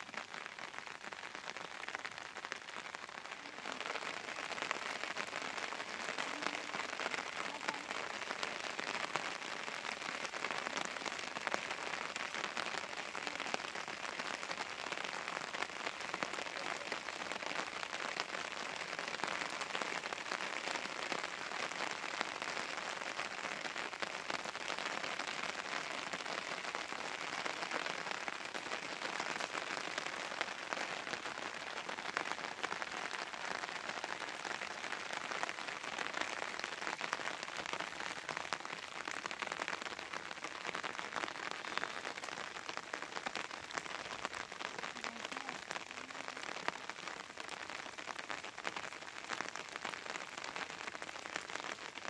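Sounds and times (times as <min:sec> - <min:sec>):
dense patter of fine crackles: 0:00.0 - 0:52.0.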